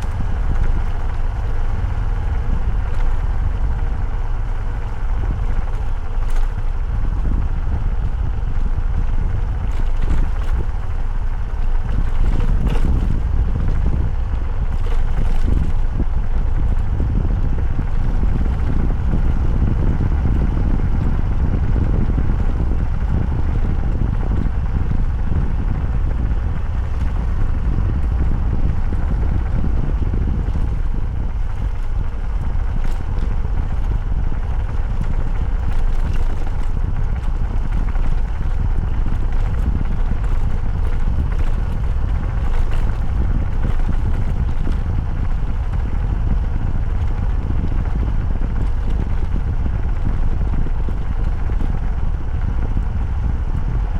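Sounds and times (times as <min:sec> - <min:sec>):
motorcycle engine running: 0:00.0 - 0:53.9
wind buffeting microphone: 0:00.0 - 0:53.9.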